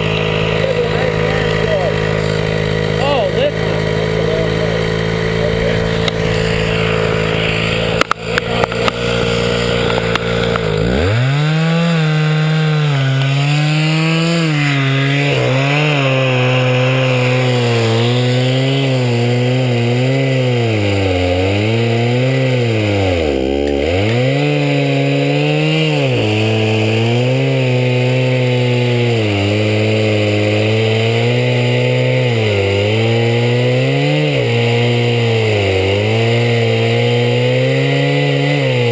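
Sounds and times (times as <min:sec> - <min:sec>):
small gasoline engine under load: 0:00.0 - 0:38.9.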